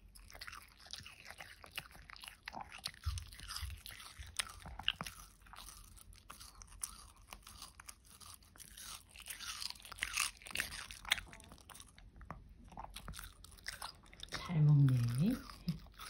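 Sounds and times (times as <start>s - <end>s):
dog chewing watermelon: 0.0s - 16.0s.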